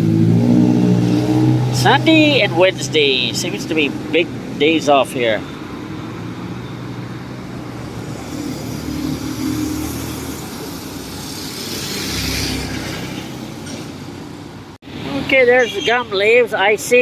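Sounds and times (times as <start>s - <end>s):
vehicle engine running: 0.0s - 13.6s
vehicle passing: 0.0s - 15.3s.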